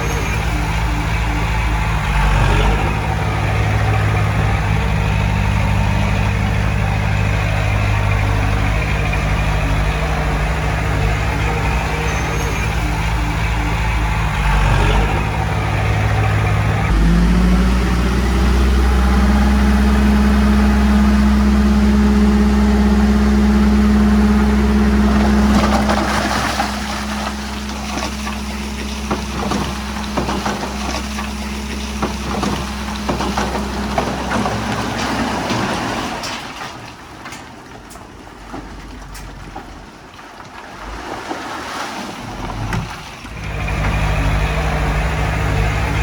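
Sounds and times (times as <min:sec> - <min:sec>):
diesel machinery engine running: 0:00.0 - 0:37.1, 0:42.3 - 0:46.0.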